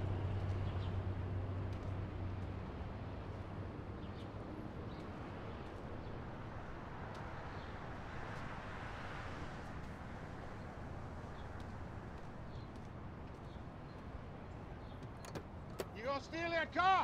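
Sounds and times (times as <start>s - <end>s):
low engine hum: 0.0s - 16.2s
distant traffic: 0.0s - 17.0s.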